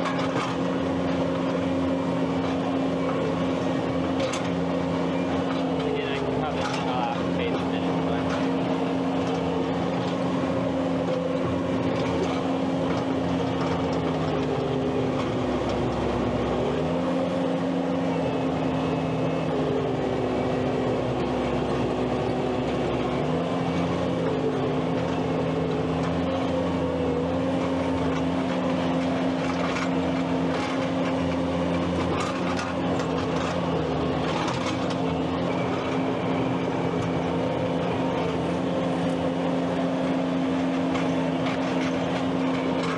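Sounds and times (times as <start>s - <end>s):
skid steer engine running: 0.0s - 42.9s.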